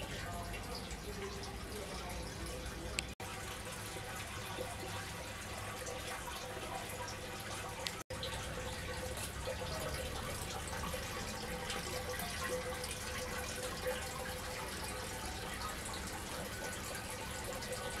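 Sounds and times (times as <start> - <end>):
fountain water trickling and splashing: 0.0 - 18.0.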